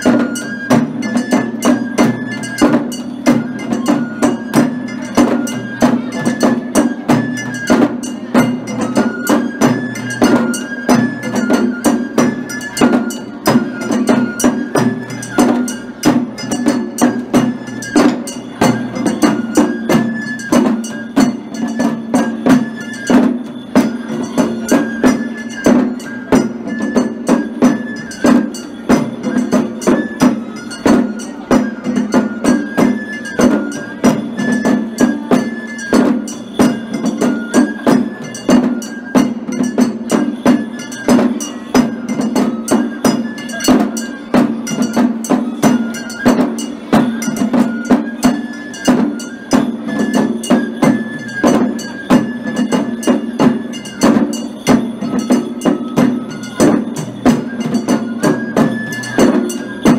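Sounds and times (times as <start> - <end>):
drums beaten with sticks: 0.0 - 59.9
high bamboo flute melody: 0.0 - 59.9.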